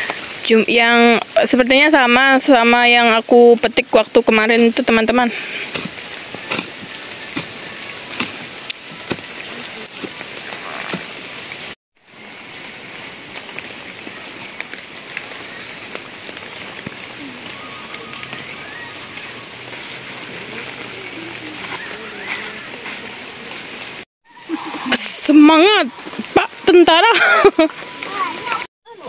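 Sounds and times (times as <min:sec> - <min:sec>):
light rain on leaves: 0:00.0 - 0:29.0.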